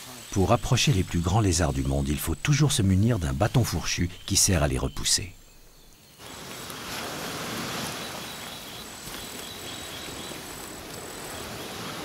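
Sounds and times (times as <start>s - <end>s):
high-pitched insect call: 0.0s - 12.0s
insect ambience hiss: 0.0s - 12.0s.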